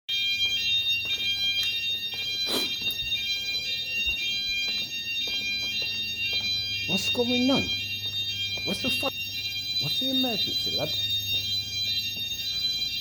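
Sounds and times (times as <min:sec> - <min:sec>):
fire alarm high-pitched tone: 0:00.1 - 0:13.0.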